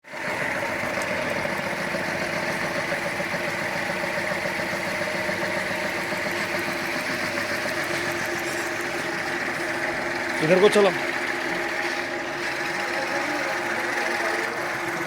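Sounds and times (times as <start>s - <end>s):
floor grinding machine humming: 0.0s - 15.0s.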